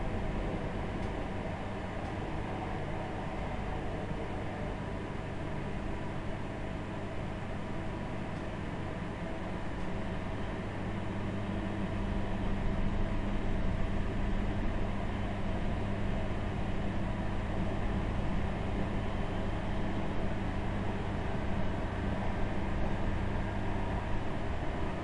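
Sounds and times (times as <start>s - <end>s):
train rumble from inside carriage: 0.0s - 25.0s.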